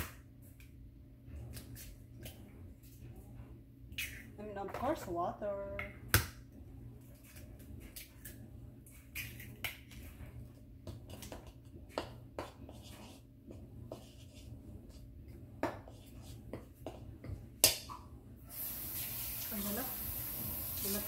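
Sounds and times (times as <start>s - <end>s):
batter worked in bowl: 0.0s - 21.0s.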